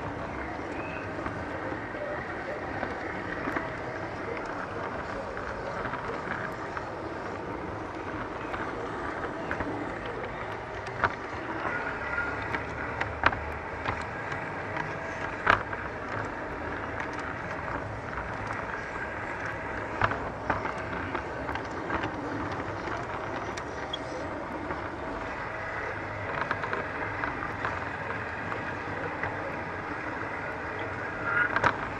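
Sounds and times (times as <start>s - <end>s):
toy train rolling on track: 0.0s - 31.9s.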